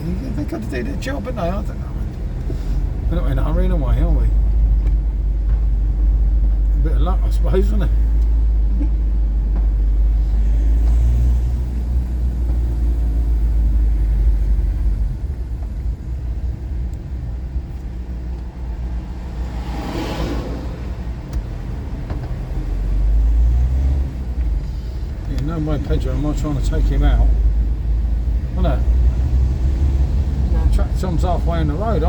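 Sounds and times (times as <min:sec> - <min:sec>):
car rumbling at a crawl: 0:00.0 - 0:32.0.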